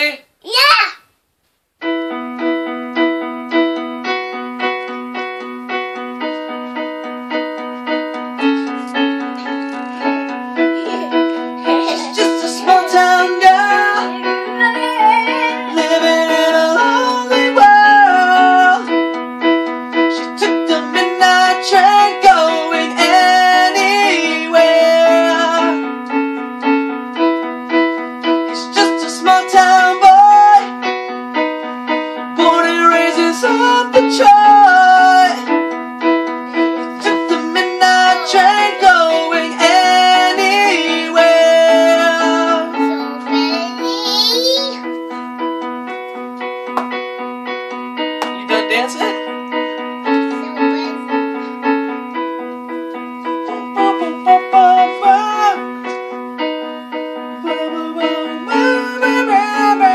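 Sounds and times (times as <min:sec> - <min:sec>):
electronic keyboard song: 0:01.6 - 0:59.9.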